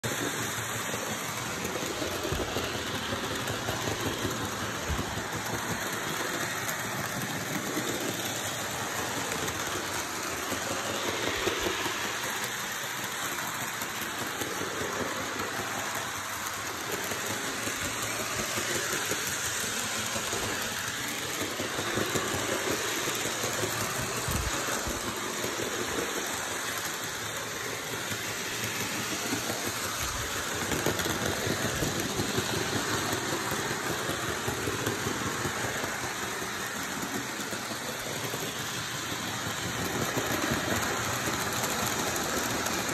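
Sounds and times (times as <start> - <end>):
model trains whirring on rails: 0.0 - 42.9.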